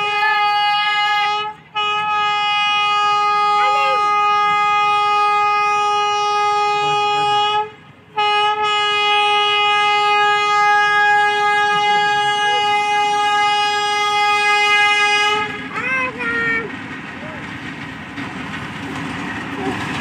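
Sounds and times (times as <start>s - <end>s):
locomotive horn blast: 0.0s - 16.1s.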